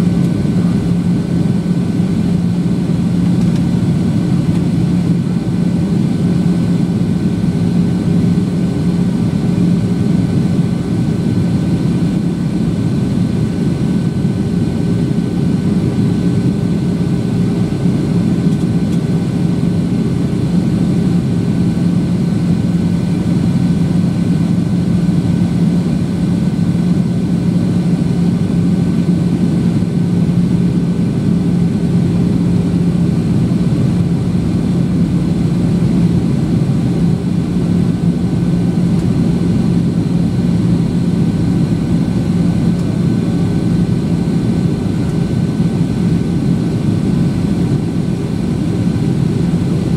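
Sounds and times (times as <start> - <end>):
airplane cabin drone: 0.0 - 49.9
faint high engine whine: 0.0 - 49.9.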